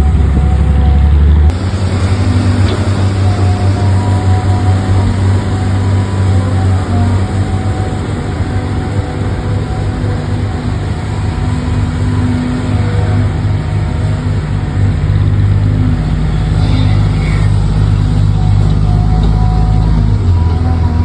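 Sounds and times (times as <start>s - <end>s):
faint steady tones: 0.0s - 21.0s
toy truck engine drone: 0.0s - 21.0s.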